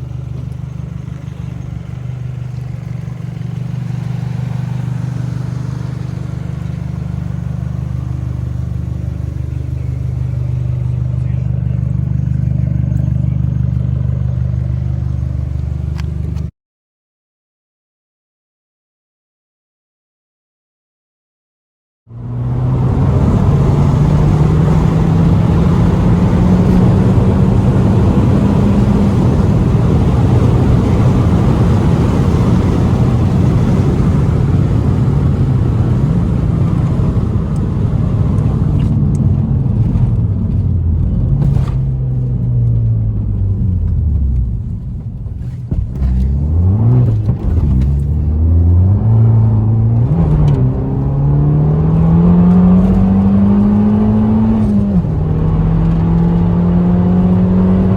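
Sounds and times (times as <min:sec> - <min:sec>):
car engine accelerating: 0:00.0 - 0:16.5, 0:22.1 - 0:57.9.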